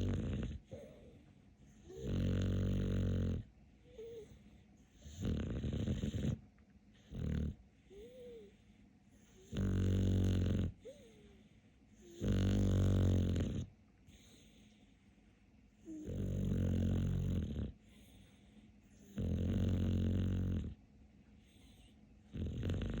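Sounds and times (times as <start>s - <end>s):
dog snoring: 0.0s - 8.6s, 9.2s - 11.4s, 12.0s - 14.7s, 15.8s - 20.8s, 21.4s - 23.0s
dog quiet breathing: 0.0s - 23.0s.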